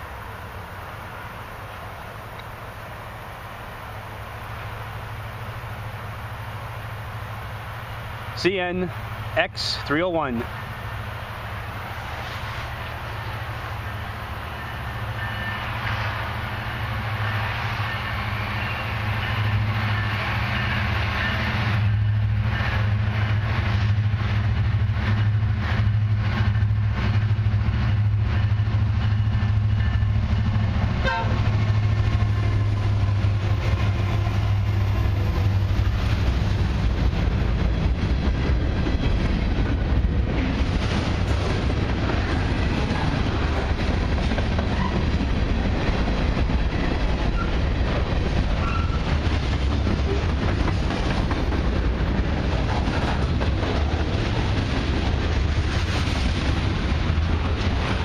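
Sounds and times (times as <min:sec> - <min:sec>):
locomotive engine drone: 0:00.0 - 0:58.0
freight cars wheels on rails: 0:06.7 - 0:58.0.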